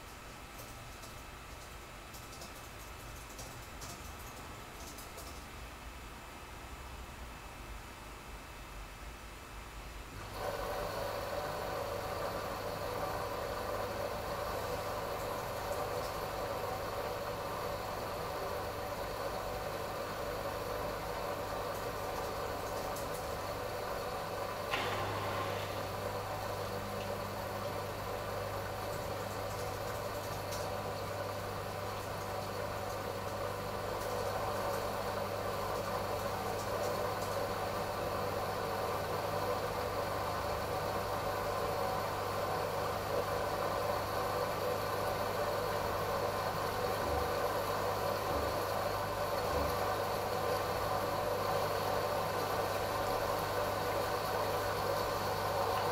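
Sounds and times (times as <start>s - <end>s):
washing machine drum spinning: 10.2s - 55.9s.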